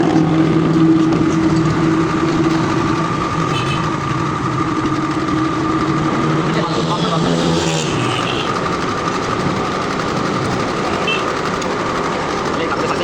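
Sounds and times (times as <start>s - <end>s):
car engine misfiring: 0.0s - 13.0s.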